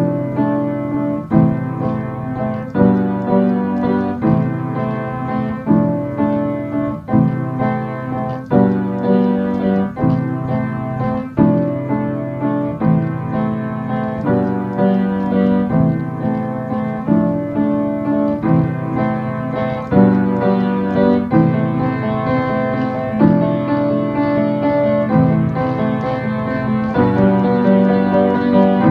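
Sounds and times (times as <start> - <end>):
slow solo piano chords: 0.0 - 28.9.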